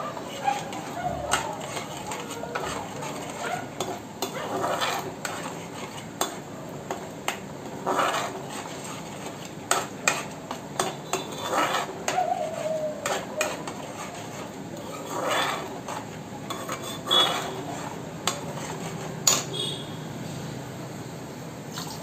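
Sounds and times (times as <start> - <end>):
metal spoon scraping a pan: 0.0 - 19.9.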